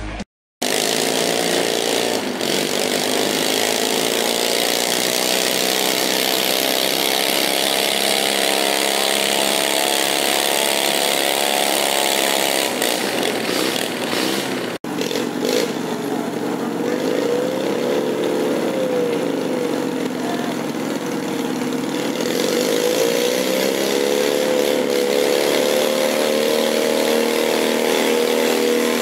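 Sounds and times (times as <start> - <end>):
garden tractor engine revving: 0.0 - 29.0.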